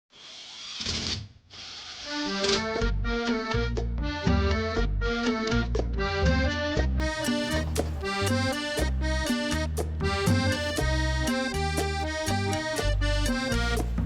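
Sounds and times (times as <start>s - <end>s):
accordion-led instrumental music: 2.1s - 14.0s.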